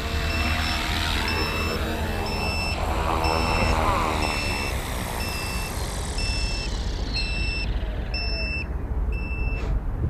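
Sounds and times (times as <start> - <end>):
rotor whine winding down: 0.0 - 8.7
battery alarm beeping: 0.1 - 9.6.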